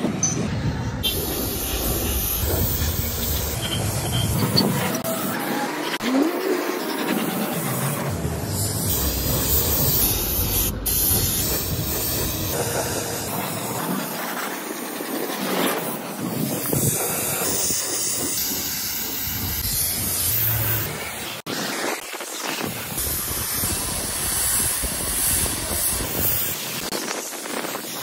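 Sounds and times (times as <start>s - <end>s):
paint spray gun hissing: 1.0s - 5.4s, 6.5s - 21.4s, 22.8s - 28.0s.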